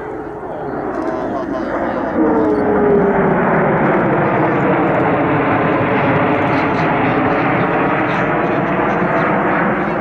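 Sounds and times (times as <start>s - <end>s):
jet engine roaring in flight: 0.0s - 10.0s.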